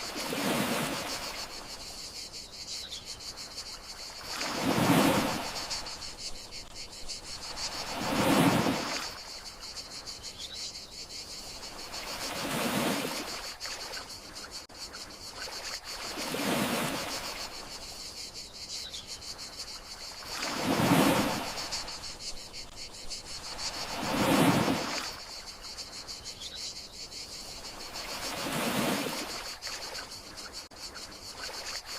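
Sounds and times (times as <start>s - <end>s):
crickets chorus: 0.0s - 31.9s
gentle sea waves: 0.0s - 31.9s.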